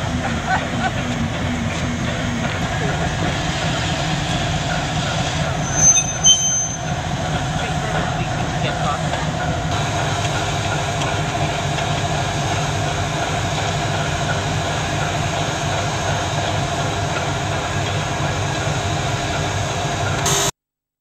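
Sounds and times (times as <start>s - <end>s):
locomotives rumbling and hissing: 0.0s - 5.7s, 6.8s - 20.2s.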